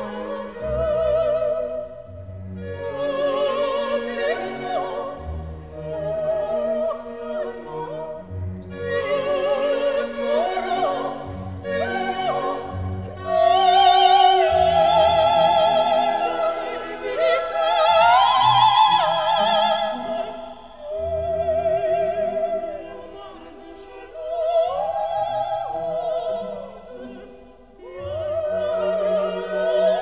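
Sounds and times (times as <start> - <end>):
soft musical accompaniment: 0.0 - 30.0
soprano singing opera: 0.0 - 30.0.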